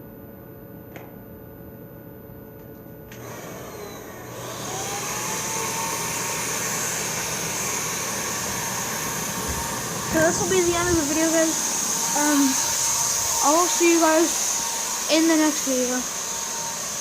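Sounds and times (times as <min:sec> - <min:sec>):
blower motor whine: 0:03.1 - 0:17.0.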